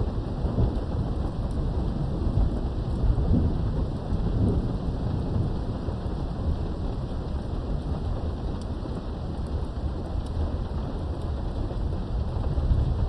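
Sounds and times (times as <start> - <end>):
rolling thunder rumble: 0.0 - 13.0
steady rain: 0.0 - 13.0.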